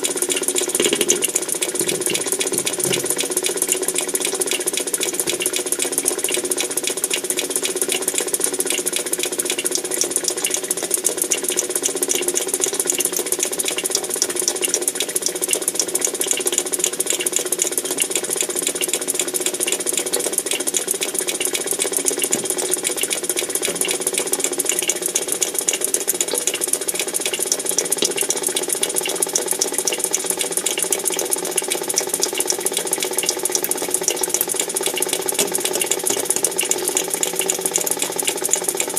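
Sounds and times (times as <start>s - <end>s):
fast mechanical rattling: 0.0s - 38.9s.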